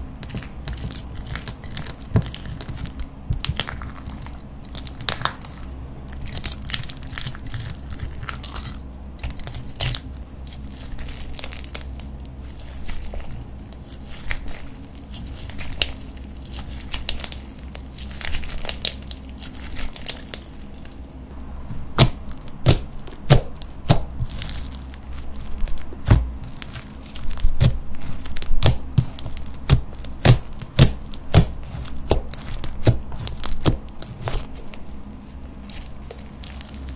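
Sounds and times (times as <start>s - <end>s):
slime clicking and crackling: 0.2s - 36.9s.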